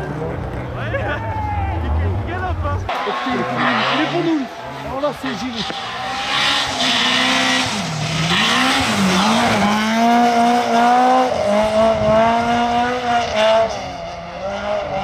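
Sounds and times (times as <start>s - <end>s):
rally car engine at high revs: 2.9s - 15.0s.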